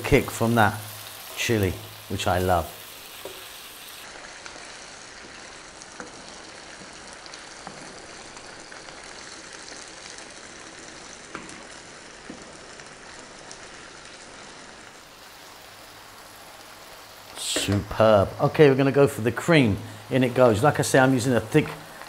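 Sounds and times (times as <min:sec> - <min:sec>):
sauce sizzling in frying pan: 0:00.0 - 0:22.0.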